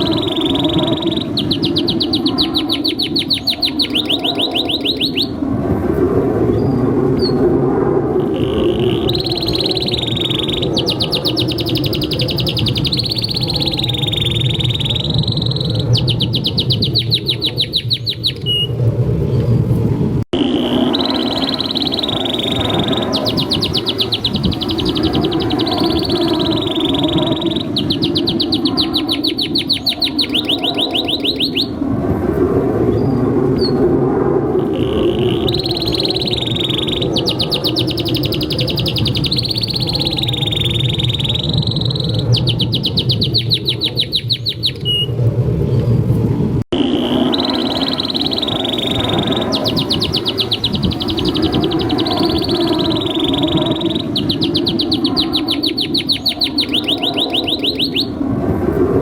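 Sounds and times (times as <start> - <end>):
canary singing trills: 0.0 - 5.4, 8.2 - 18.7, 20.4 - 31.8, 34.7 - 45.1, 46.8 - 58.2.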